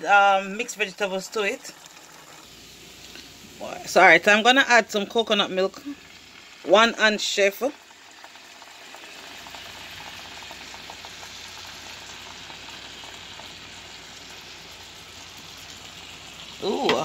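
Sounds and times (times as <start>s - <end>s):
coconut milk pouring: 0.0s - 17.0s
onions sizzling in frying pan: 0.0s - 17.0s.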